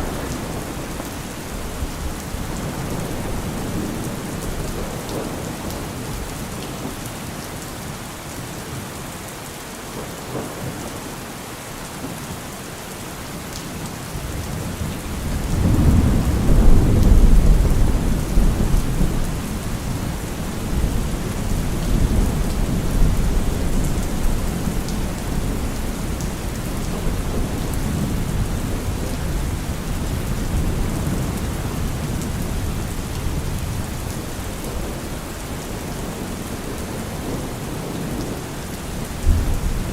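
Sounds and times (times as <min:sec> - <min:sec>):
thunder rumbling: 0:00.0 - 0:06.3, 0:14.2 - 0:39.9
heavy rain on a car roof: 0:00.0 - 0:39.9.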